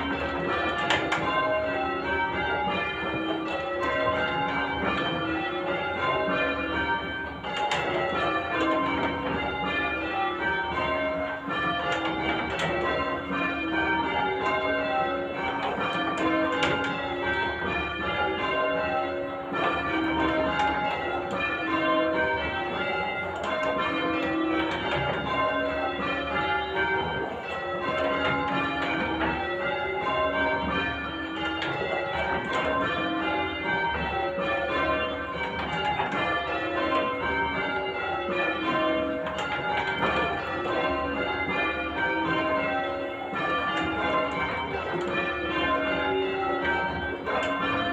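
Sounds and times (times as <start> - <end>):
church bells ringing: 0.0 - 47.9.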